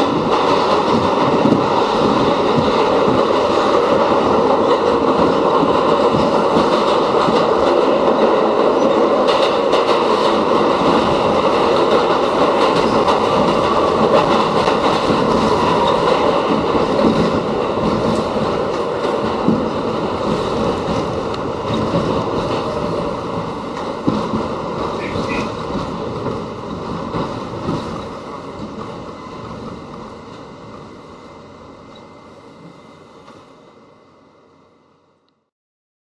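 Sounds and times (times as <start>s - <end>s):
subway train rumbling: 0.0s - 35.5s.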